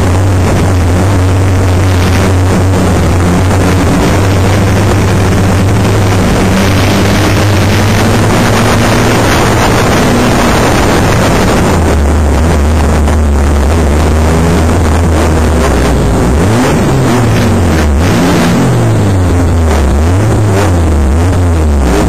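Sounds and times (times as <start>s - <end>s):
race car engine running loud: 0.0s - 22.0s
road noise: 0.0s - 22.0s
wind on microphone: 0.0s - 22.0s.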